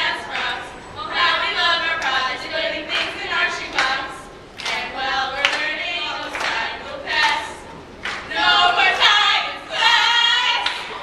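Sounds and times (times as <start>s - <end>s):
girls singing unaccompanied: 0.0s - 11.0s.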